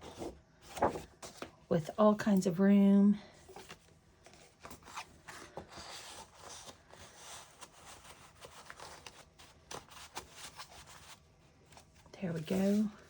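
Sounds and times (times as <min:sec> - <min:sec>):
paper pages rustling: 0:00.0 - 0:01.6, 0:03.4 - 0:13.0.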